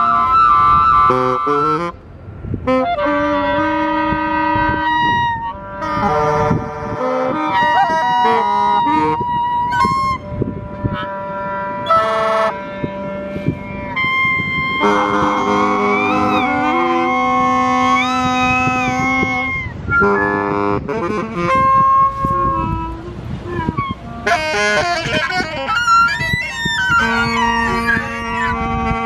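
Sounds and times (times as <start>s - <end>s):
clarinet: 0.0s - 29.0s
saxophone: 0.0s - 29.0s.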